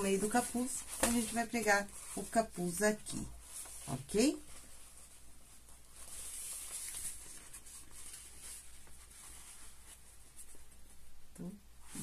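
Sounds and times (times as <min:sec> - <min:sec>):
nylon fabric rustling: 0:00.0 - 0:11.2.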